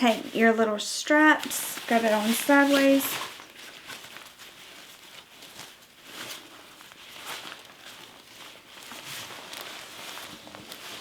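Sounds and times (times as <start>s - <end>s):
fabric rustling and brushing: 0.0s - 11.0s.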